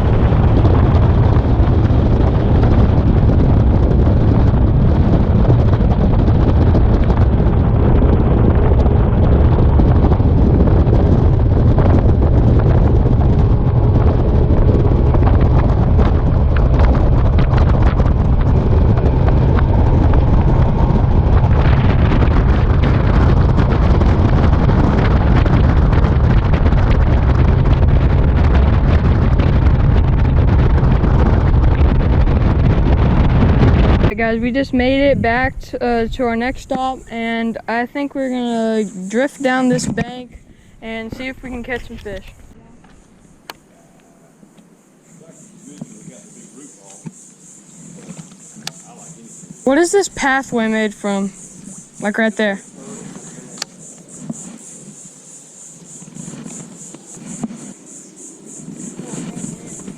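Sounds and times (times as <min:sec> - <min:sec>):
boat motor drone: 0:00.0 - 0:40.1, 0:40.8 - 0:59.9
wind buffeting microphone: 0:00.0 - 0:59.9.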